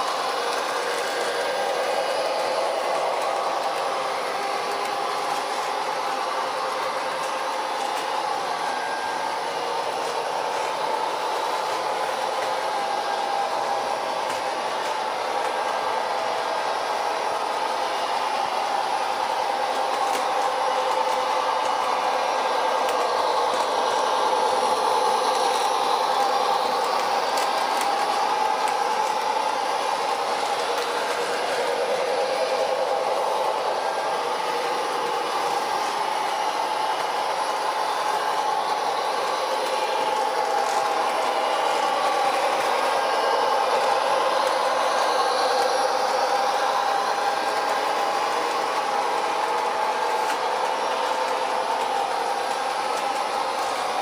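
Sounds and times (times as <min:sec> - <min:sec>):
model train motor whirring: 0:00.0 - 0:54.0
wheels rolling on rails: 0:00.0 - 0:54.0.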